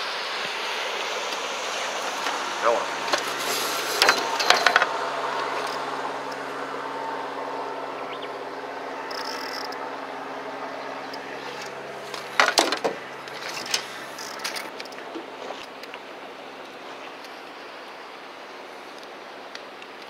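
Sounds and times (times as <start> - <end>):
boat engine idling: 0.0 - 20.0
water wash: 0.0 - 20.0.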